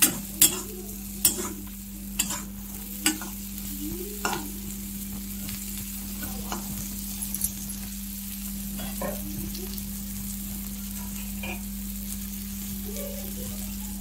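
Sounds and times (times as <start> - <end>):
stirring in a pan: 0.0 - 12.7
vegetables sizzling in oil: 0.0 - 14.0.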